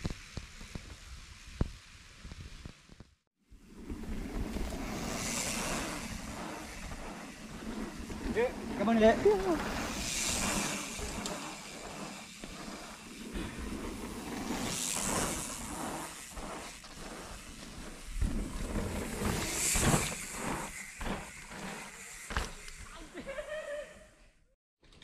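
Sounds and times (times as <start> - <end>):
bike tyres rattling over bumps: 0.0 - 23.9.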